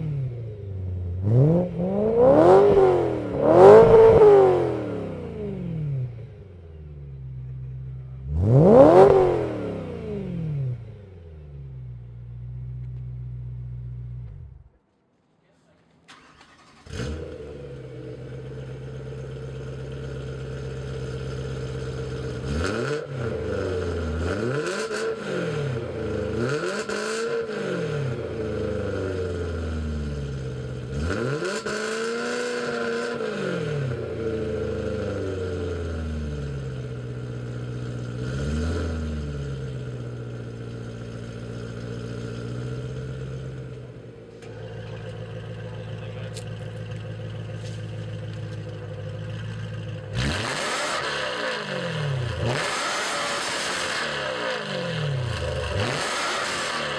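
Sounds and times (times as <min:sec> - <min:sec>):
car engine idling and revving: 0:00.0 - 0:14.8, 0:16.1 - 0:56.9.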